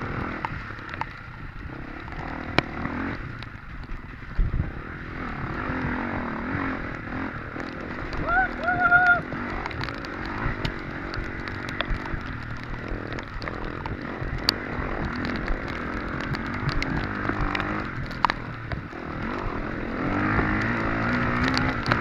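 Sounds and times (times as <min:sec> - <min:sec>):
bike clattering on rough ground: 0:00.0 - 0:22.0
dirt bike engine revving: 0:00.0 - 0:22.0
wind noise: 0:00.0 - 0:22.0.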